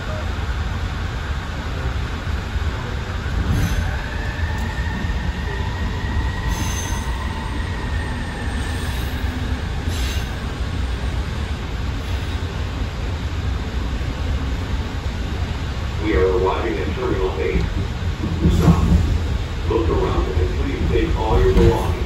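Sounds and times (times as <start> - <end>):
train rumbling on elevated track: 0.0 - 22.0.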